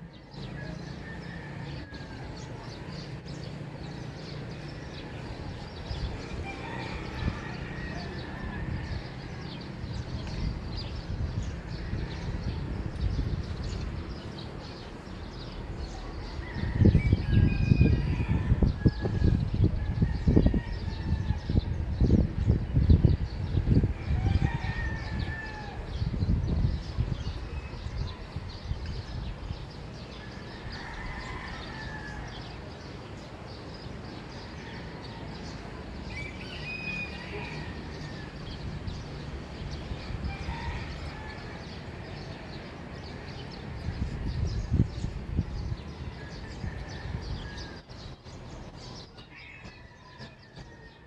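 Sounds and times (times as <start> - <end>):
outdoor background rumble: 0.0 - 51.0
small birds chirping: 0.0 - 51.0.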